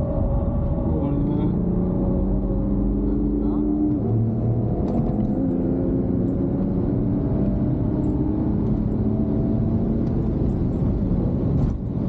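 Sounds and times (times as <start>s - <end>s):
car engine pulling at speed: 0.0s - 12.0s
road and wind noise: 0.0s - 12.0s.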